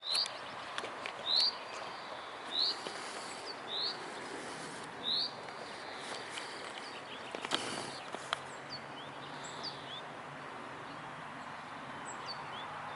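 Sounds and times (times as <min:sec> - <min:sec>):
steady background hiss: 0:00.1 - 0:12.5.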